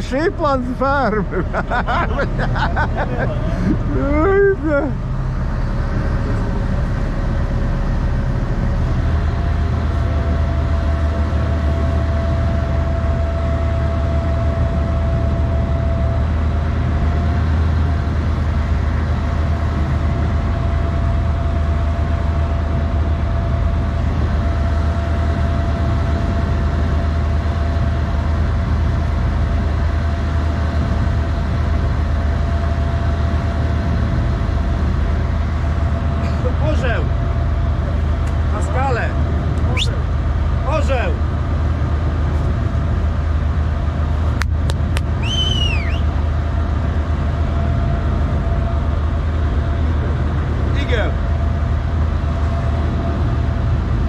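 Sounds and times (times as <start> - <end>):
boat motor drone with whine: 0.0 - 54.0.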